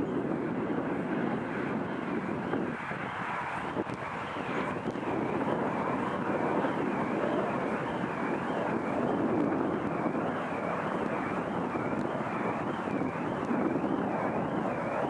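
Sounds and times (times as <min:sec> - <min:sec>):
wind-like rushing noise: 0:00.0 - 0:15.0.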